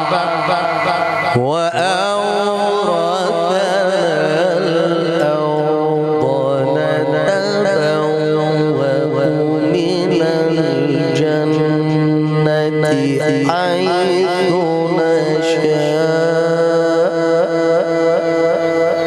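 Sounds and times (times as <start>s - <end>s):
man reciting melodically: 0.0s - 19.0s.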